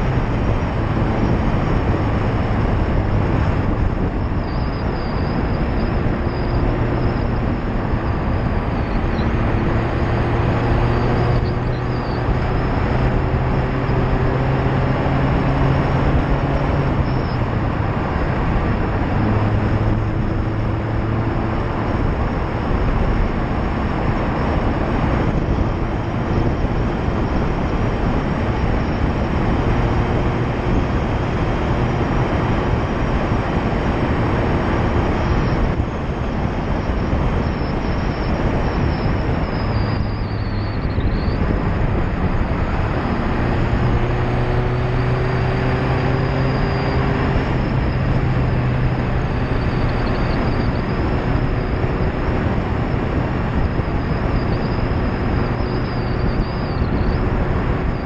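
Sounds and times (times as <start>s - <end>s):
car engine and exhaust: 0.0s - 58.0s
tyre roar on asphalt: 0.0s - 58.0s.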